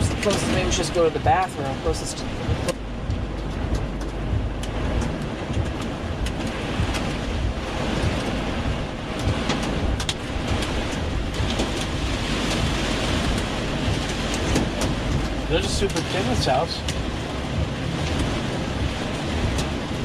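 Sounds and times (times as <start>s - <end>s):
hail ticking: 0.0s - 19.8s
engine and road rumble: 0.0s - 20.0s
heavy rain on vehicle roof: 0.0s - 20.0s.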